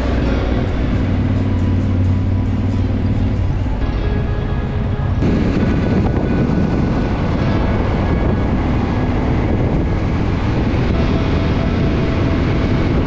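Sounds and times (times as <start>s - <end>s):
motorcycle running: 0.0s - 13.0s
wind rushing over microphone: 0.0s - 13.0s.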